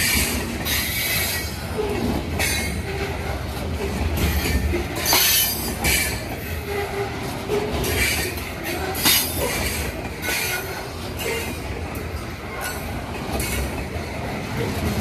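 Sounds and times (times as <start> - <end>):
train wheels squealing: 0.0 - 3.4, 4.2 - 13.9
train wheels rumbling on rail: 0.0 - 15.0.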